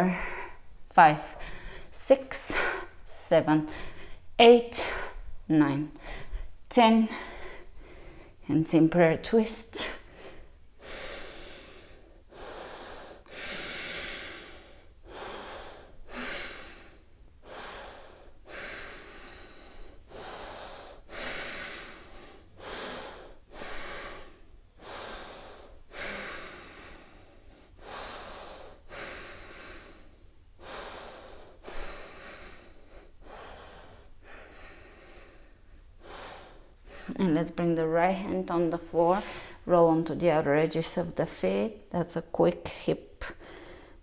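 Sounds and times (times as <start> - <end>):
woman breathing rhythmically: 0.0 - 41.7, 42.7 - 44.0.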